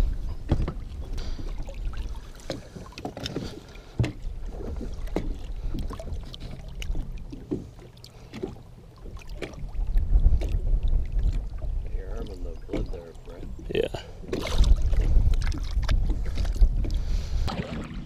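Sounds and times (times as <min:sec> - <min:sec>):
low rumble of water: 0:00.0 - 0:18.0
water sloshing and lapping: 0:00.0 - 0:18.0
small splashes and knocks: 0:00.4 - 0:13.5, 0:14.3 - 0:18.0.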